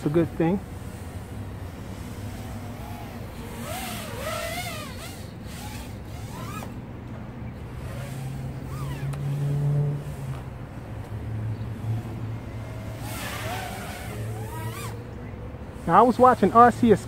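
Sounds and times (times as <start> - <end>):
quadcopter motor whine: 0.0 - 10.5, 11.8 - 16.9.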